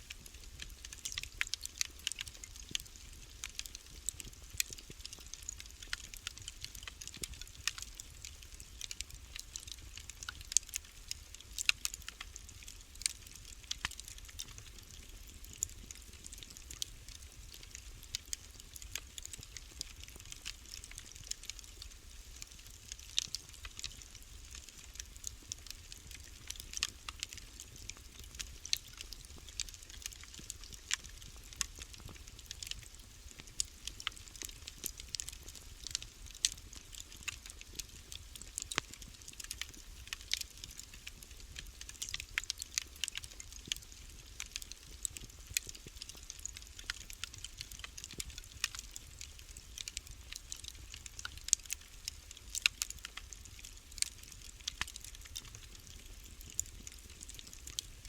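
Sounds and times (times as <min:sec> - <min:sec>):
wood fire crackling: 0:00.1 - 0:58.0.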